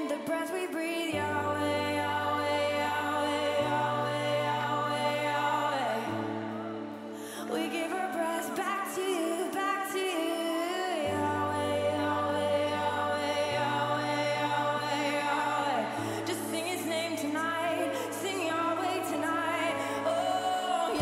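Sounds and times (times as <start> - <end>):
slow worship music: 0.0 - 21.0
voices singing long lines: 1.1 - 21.0.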